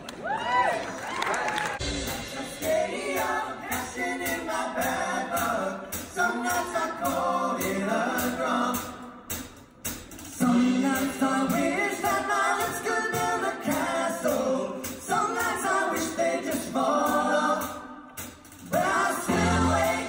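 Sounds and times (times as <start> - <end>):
vocal group singing in harmony: 1.8 - 9.4, 10.3 - 20.0.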